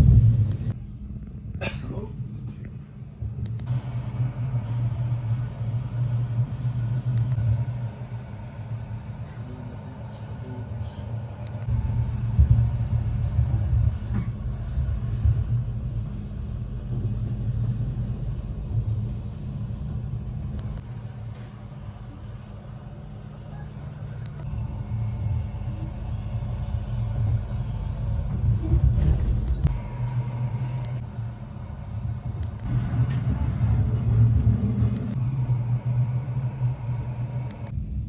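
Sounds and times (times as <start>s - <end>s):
train wheels rumbling on rails: 0.0s - 37.8s.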